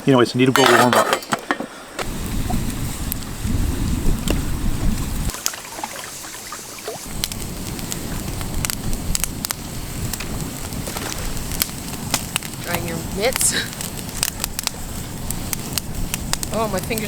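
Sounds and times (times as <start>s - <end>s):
sharp crackles and ticks: 2.0s - 17.0s
wind buffeting microphone: 2.0s - 17.0s.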